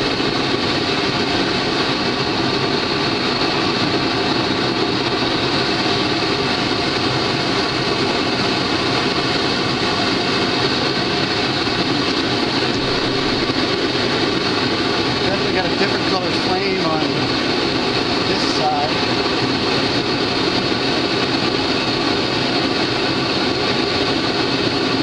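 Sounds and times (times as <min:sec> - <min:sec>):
gas burners rushing: 0:00.0 - 0:25.0.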